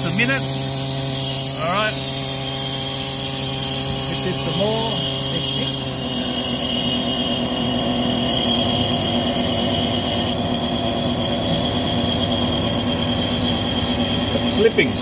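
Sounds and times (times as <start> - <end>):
diesel engine running: 0.0 - 15.0
drive belt chirping: 0.0 - 15.0
hydraulic pump whine: 0.0 - 15.0.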